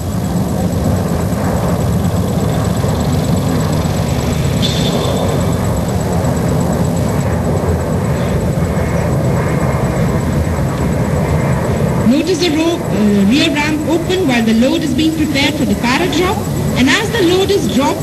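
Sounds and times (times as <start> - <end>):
jet aircraft passing overhead: 0.0 - 18.0.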